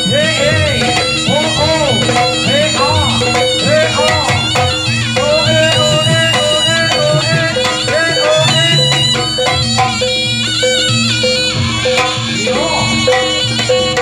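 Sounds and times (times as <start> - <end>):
hand drums: 0.0 - 14.0
held gong tones: 0.0 - 14.0
reedy shawm melody: 0.0 - 14.0.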